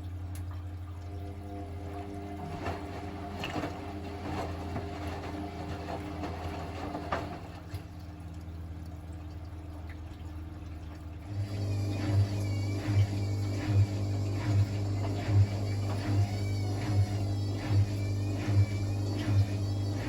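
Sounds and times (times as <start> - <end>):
washing machine hum: 0.0 - 20.0
water sloshing in washing machine drum: 0.0 - 20.0.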